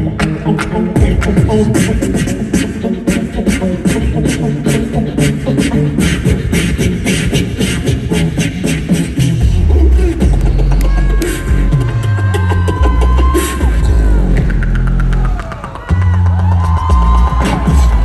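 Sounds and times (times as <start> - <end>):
beatbox vocal percussion: 0.0 - 18.0
heavy deep bass: 0.0 - 18.0
hummed bass lines: 0.0 - 18.0.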